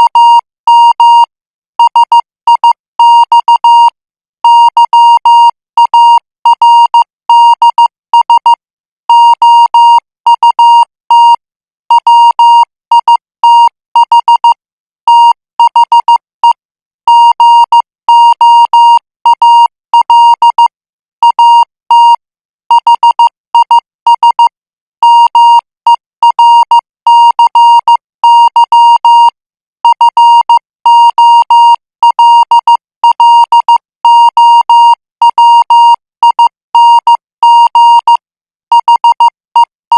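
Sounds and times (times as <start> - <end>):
morse code beeps: 0.0 - 39.8.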